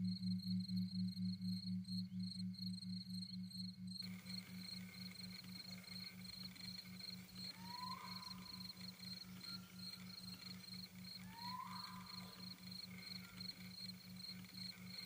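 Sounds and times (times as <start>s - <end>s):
pulsing low hum: 0.0s - 15.0s
rhythmic cricket-like chirping: 0.0s - 15.0s.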